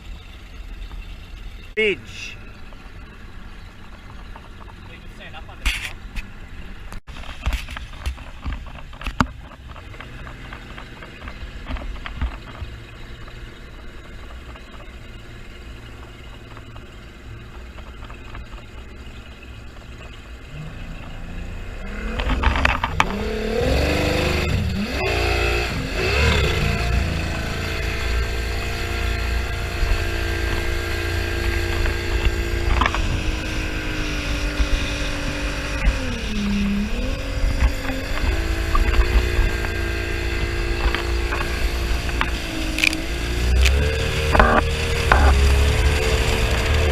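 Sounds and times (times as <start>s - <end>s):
motorboat engine: 0.0s - 46.9s.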